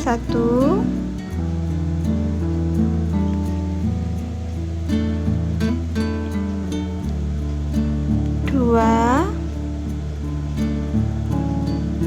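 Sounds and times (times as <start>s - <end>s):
acoustic guitar plucking and strumming: 0.0s - 12.0s
bass line: 0.0s - 12.0s.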